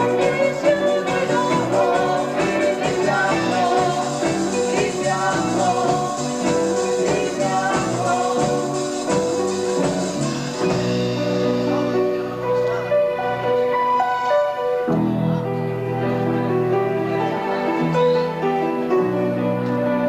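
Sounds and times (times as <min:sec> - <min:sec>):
rock band playing live: 0:00.0 - 0:20.0.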